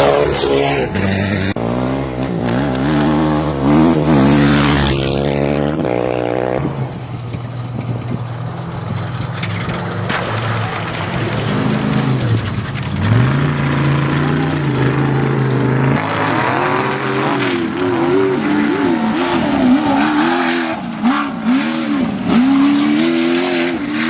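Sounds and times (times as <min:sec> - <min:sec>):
off-road vehicle engines revving: 0:00.0 - 0:24.0.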